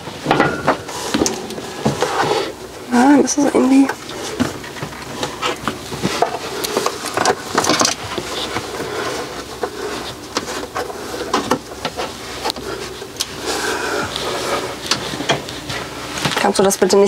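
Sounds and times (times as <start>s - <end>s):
mat scraping and rustling: 0.0s - 16.8s.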